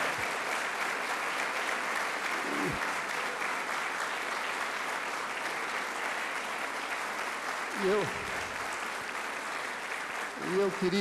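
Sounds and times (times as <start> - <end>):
audience clapping: 0.0 - 11.0.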